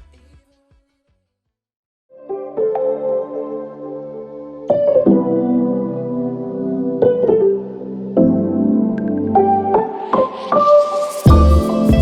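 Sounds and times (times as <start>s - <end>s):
electric piano chords: 2.2s - 12.0s.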